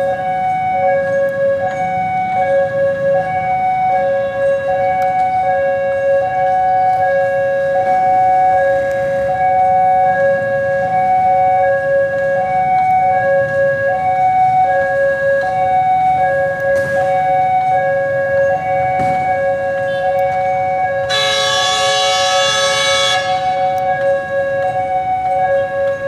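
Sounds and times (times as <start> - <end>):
level crossing two-tone alarm: 0.0 - 26.0.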